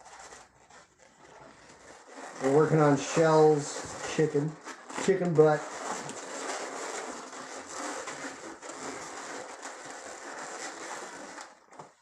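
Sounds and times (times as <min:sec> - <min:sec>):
balloons rubbing and squeezing: 0:00.0 - 0:12.0.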